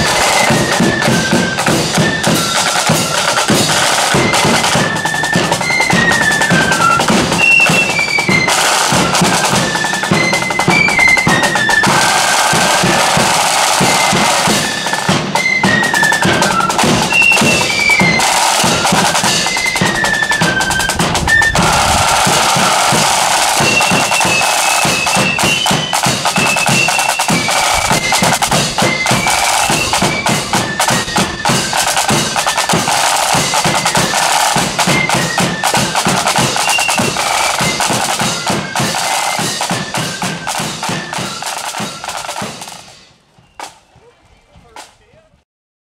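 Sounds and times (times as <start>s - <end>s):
flute melody: 0.0s - 45.4s
side drums rolling: 0.0s - 45.4s.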